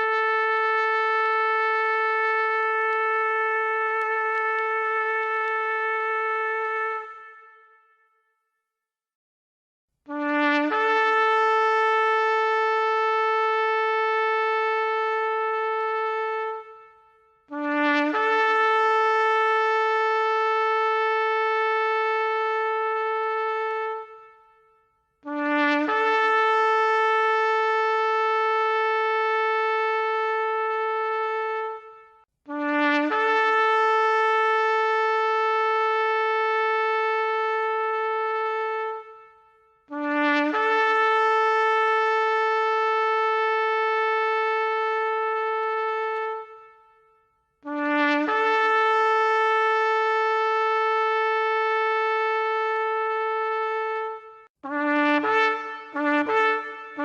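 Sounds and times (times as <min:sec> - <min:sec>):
shofar blasts: 0:00.0 - 0:08.1, 0:10.1 - 0:57.0.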